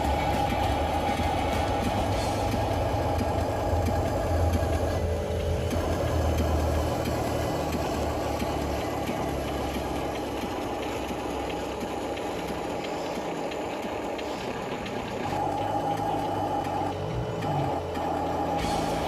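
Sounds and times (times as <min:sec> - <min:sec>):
model engine running hum: 0:00.0 - 0:19.0.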